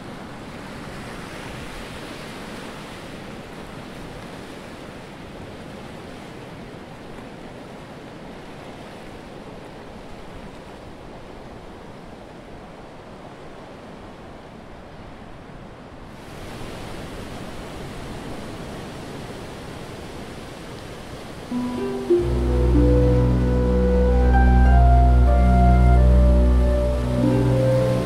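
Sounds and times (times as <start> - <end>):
ocean surf on sand: 0.0 - 14.4, 16.1 - 28.0.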